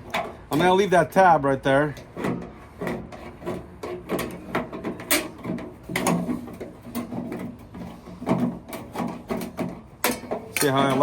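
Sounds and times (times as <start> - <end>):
sheet metal knocking and rattling: 2.1 - 11.0.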